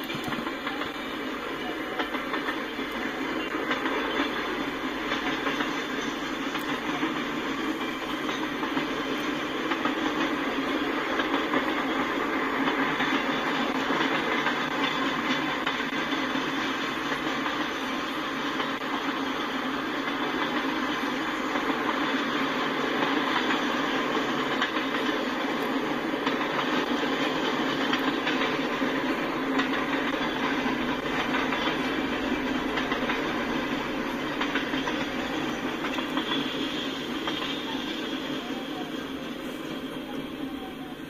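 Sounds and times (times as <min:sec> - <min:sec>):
train wheels on rails: 0:00.0 - 0:41.0.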